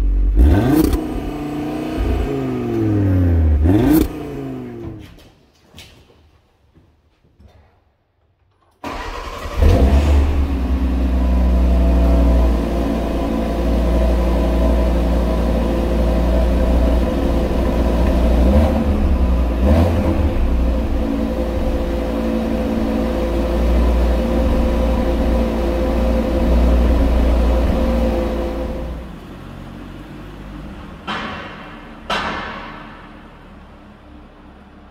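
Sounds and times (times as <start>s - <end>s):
car engine starting and idling: 0.0s - 5.3s, 8.7s - 34.9s.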